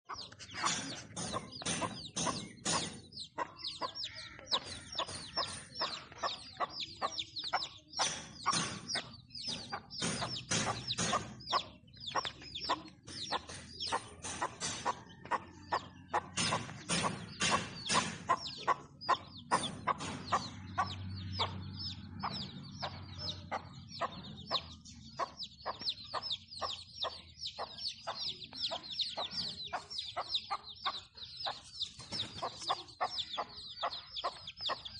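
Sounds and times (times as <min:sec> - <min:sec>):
chicks peeping: 0:00.0 - 0:34.9
hen clucking: 0:00.0 - 0:34.9.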